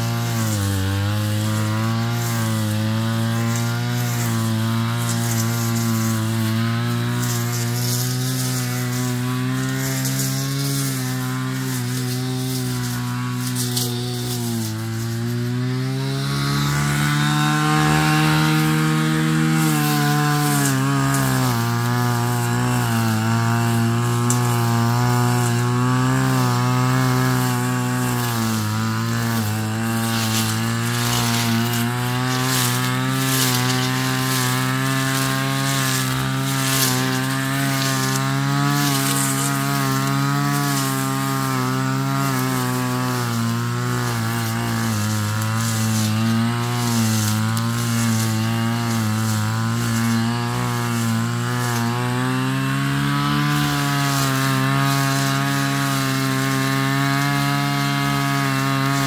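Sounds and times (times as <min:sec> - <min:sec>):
brush cutter engine running: 0:00.0 - 0:59.0
crackle of stems being struck: 0:01.6 - 0:59.0.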